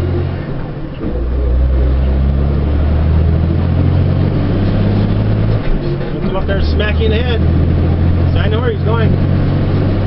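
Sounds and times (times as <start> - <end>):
diesel truck engine from cab: 0.0 - 10.0.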